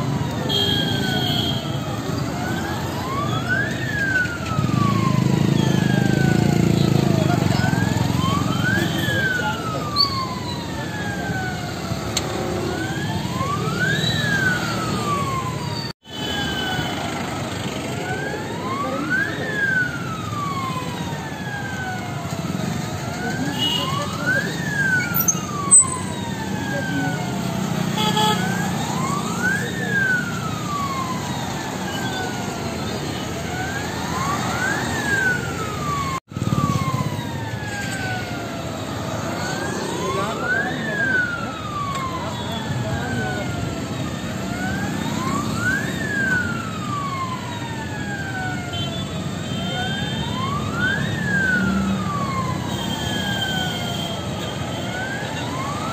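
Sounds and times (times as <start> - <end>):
alarm siren wailing: 0.0 - 55.9.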